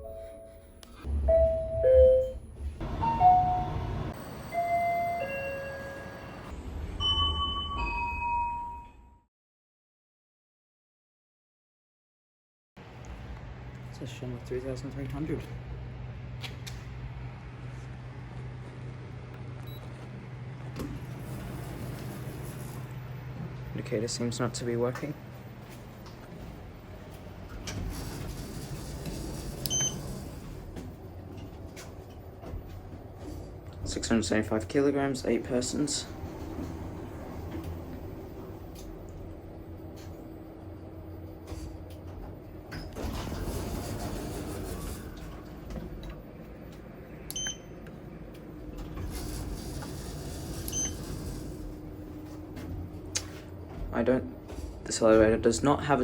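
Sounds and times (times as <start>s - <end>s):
elevator hum and rumble: 0.0s - 9.1s, 12.8s - 56.0s.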